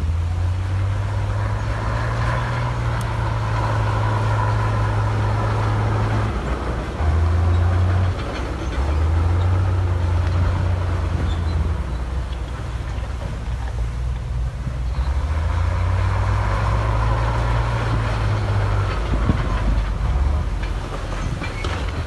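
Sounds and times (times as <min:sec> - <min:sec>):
diesel engine under changing load: 0:00.0 - 0:22.0.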